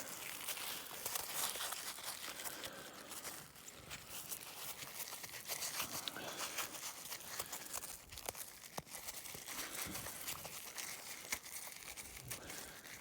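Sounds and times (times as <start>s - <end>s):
dried sunflower heads crackling: 0.0s - 13.0s.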